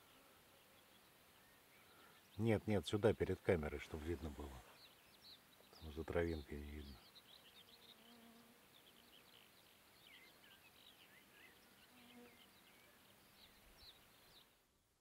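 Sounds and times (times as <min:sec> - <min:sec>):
birds chirping: 0:00.0 - 0:14.6
quiet meadow ambience: 0:00.0 - 0:15.0.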